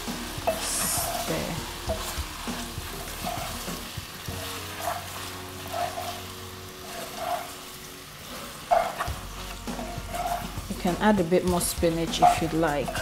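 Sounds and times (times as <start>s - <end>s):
pasta sizzling in a pan: 0.0s - 13.0s
wooden spoon stirring: 0.4s - 13.0s.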